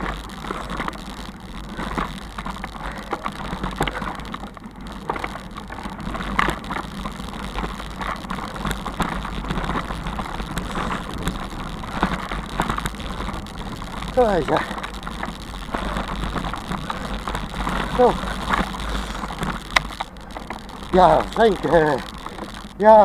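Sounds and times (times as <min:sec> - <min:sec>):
bicycle rattling over cobblestones: 0:00.0 - 0:23.0.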